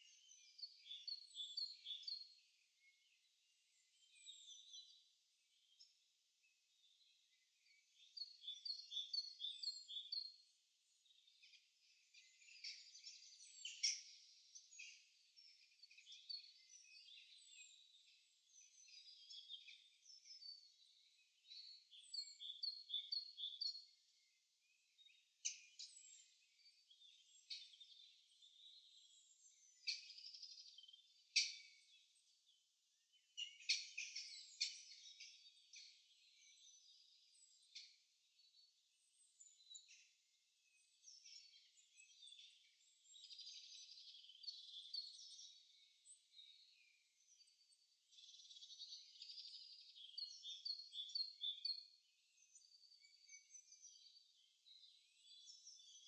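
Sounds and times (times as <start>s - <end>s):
faint songbirds singing: 0.0s - 56.0s.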